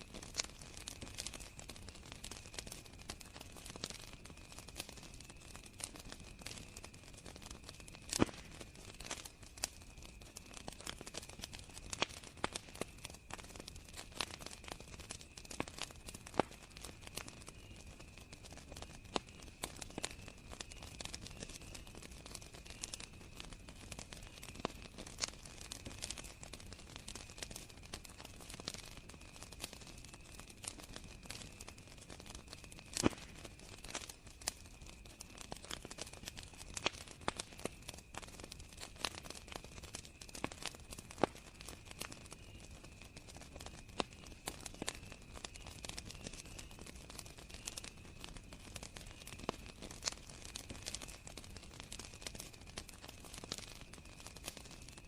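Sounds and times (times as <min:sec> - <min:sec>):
campfire crackling and popping: 0:00.0 - 0:55.0
crickets trilling: 0:00.4 - 0:55.0.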